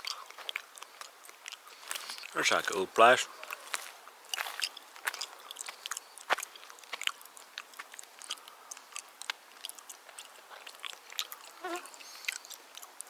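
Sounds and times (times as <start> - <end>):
mouth chewing wetly: 0.0 - 13.0.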